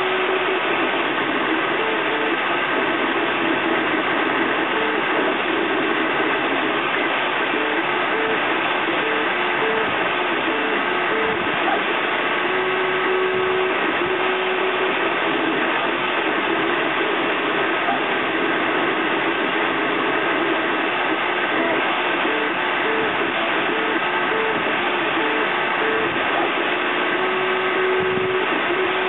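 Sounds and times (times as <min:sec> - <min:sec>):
steady fan hiss: 0:00.0 - 0:29.0.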